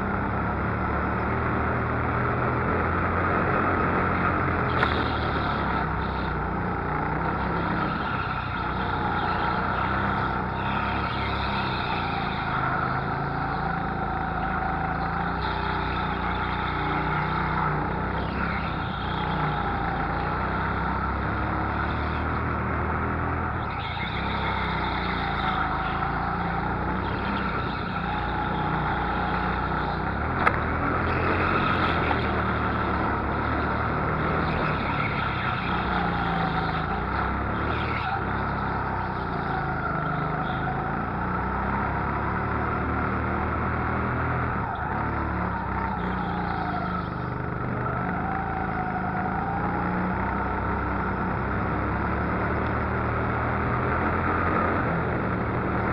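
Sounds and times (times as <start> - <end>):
go-kart motor revving: 0.0 - 55.9.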